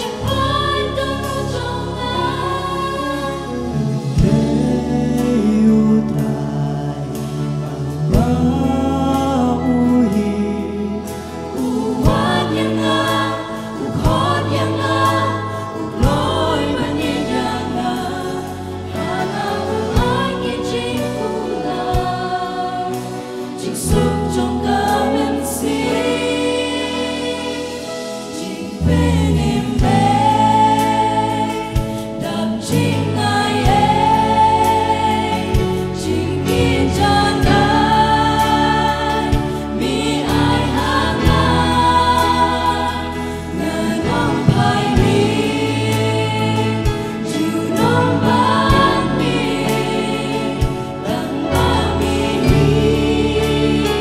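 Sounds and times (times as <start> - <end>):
acoustic guitars: 0.0 - 54.0
drums: 0.0 - 54.0
group singing worship song: 0.0 - 54.0
keyboard: 0.0 - 54.0.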